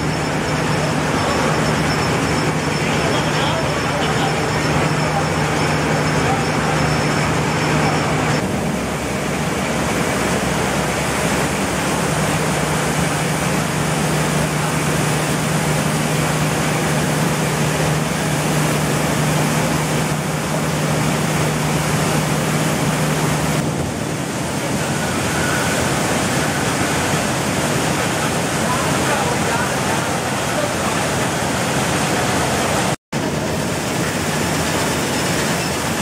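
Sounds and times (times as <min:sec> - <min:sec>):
machinery humming: 0:00.0 - 0:36.0.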